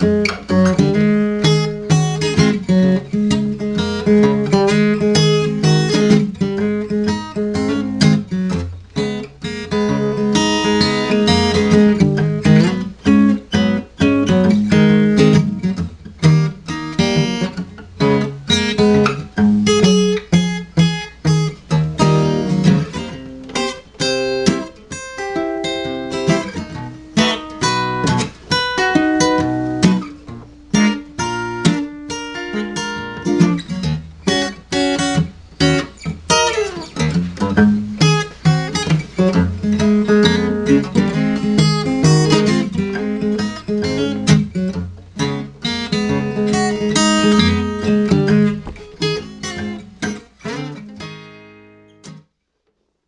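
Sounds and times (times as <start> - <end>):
fingerstyle acoustic guitar blues: 0.0 - 52.3.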